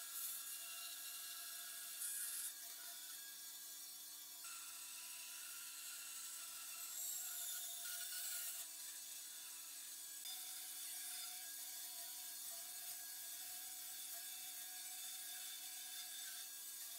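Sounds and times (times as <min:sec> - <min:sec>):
bandsaw cutting wood: 0:00.0 - 0:16.9.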